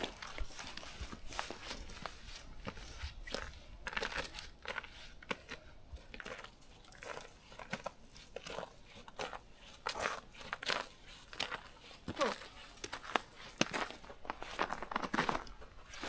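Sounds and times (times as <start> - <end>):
footsteps crunching in snow: 0.0 - 5.6, 6.2 - 16.0.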